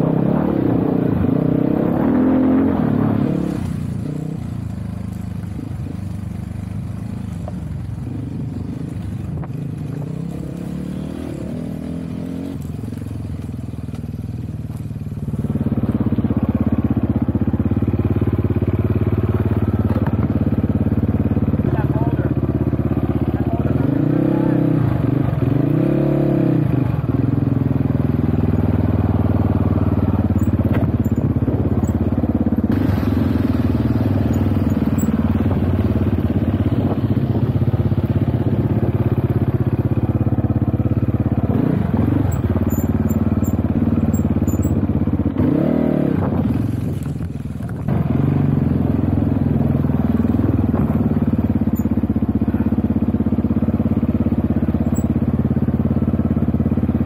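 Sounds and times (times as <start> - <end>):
dirt bike engine revving: 0.0 - 4.6, 8.0 - 12.8, 15.2 - 57.0.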